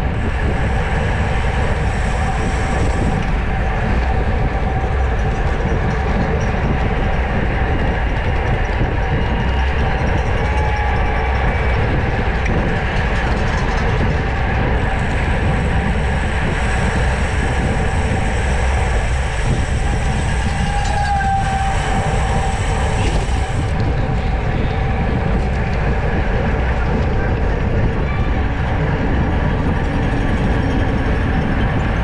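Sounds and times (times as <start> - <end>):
low road rumble: 0.0 - 32.0
wind rush on microphone: 0.0 - 32.0.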